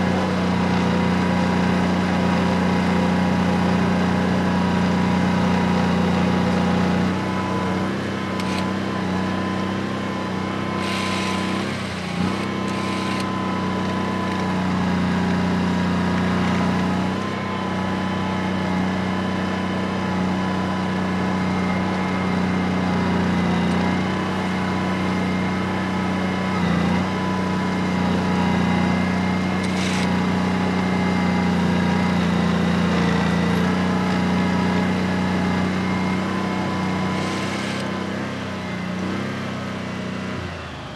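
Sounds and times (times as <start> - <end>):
snow groomer engine running: 0.0 - 40.9.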